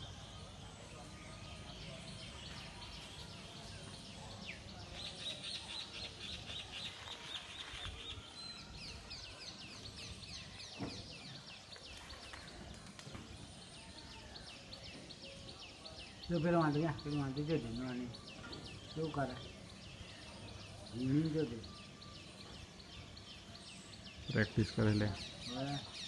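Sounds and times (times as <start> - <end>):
birds chirping: 0.0 - 26.0
low outdoor background: 0.0 - 26.0.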